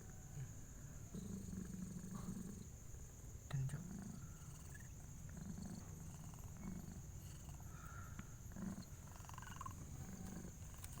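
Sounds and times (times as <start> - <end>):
cat purring and breathing heavily: 1.1 - 2.8, 3.6 - 11.0.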